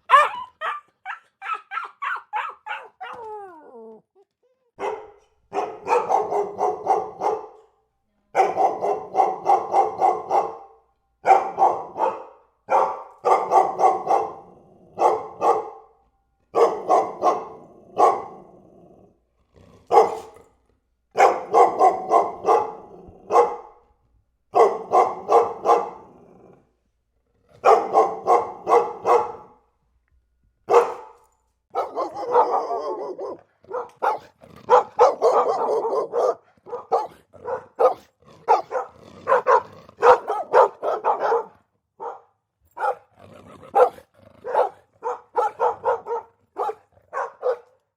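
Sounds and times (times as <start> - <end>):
dog barking: 0.0 - 3.3, 4.8 - 18.5, 19.9 - 20.4, 21.1 - 23.8, 24.5 - 26.1, 27.6 - 29.6, 30.7 - 47.8.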